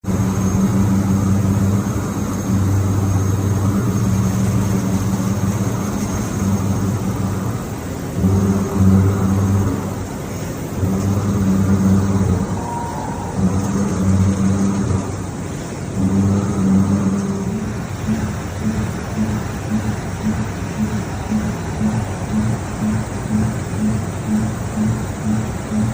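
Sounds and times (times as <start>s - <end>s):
faint high whine: 0.0s - 25.9s
milling machine cutter humming: 0.0s - 25.9s.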